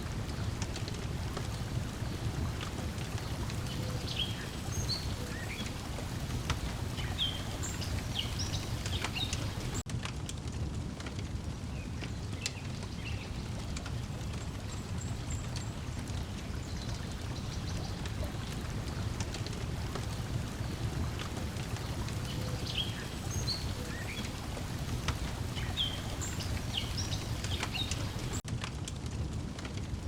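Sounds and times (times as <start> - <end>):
small birds chirping: 0.0 - 9.8, 11.8 - 28.4
water lapping: 0.0 - 9.8, 13.5 - 28.4
wood fire crackling: 0.0 - 30.0.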